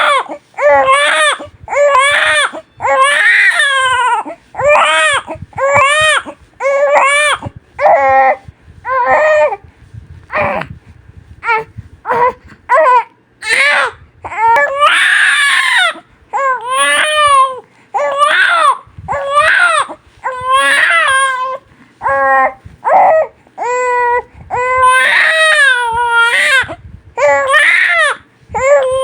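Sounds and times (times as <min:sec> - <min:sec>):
baby crying: 0:00.0 - 0:09.6, 0:11.4 - 0:29.0.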